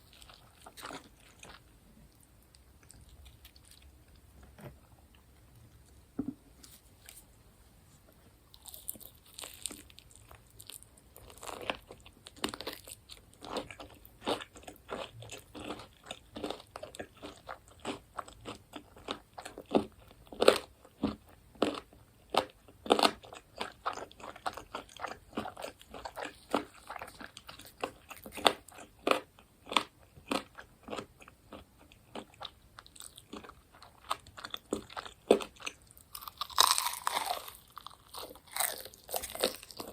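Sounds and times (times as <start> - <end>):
crunching fried food: 0.0 - 1.7, 8.5 - 39.9.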